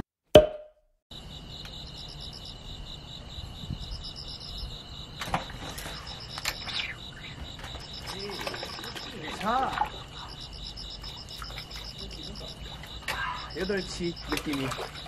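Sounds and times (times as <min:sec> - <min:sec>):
crickets chirping: 0:01.1 - 0:15.0.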